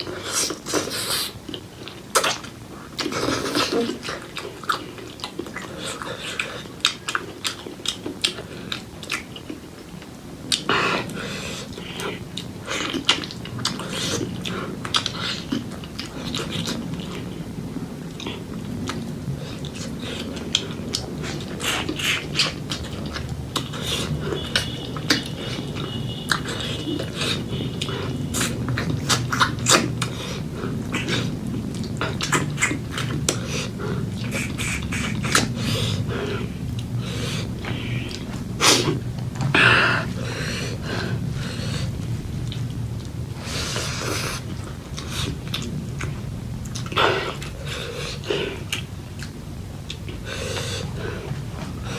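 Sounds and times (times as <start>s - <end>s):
wet chewing and mouth smacks: 0.0s - 17.4s, 18.1s - 39.3s, 40.8s - 51.9s.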